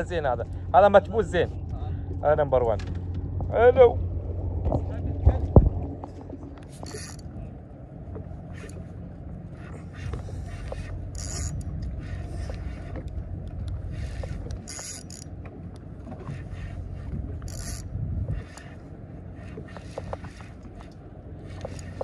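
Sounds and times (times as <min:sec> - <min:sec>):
water sloshing against boat hull: 0:00.0 - 0:22.0
wind on microphone: 0:03.3 - 0:15.1, 0:16.0 - 0:22.0.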